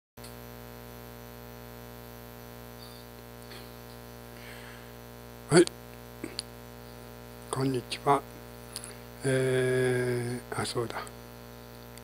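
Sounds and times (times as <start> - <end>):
electrical mains hum: 0.2 - 12.0.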